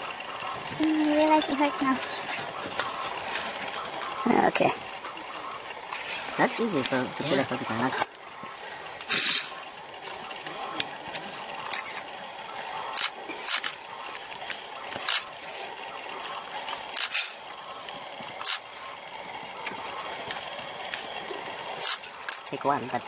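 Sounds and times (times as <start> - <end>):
steady hiss: 0.0 - 22.6
porcupine rattling quills: 0.0 - 23.0.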